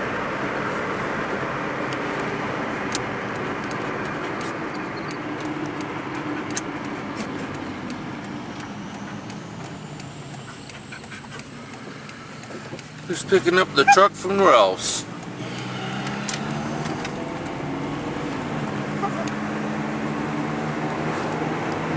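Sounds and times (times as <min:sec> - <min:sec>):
vehicle engine hum and road rumble: 0:00.0 - 0:21.9.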